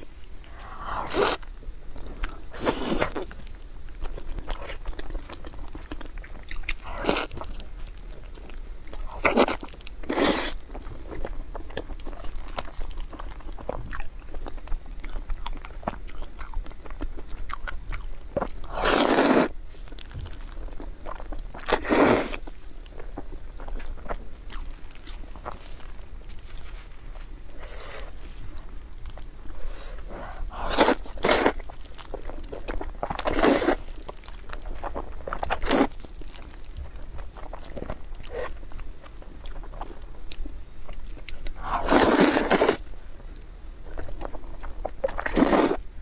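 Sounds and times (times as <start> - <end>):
chewing: 0.0 - 45.9.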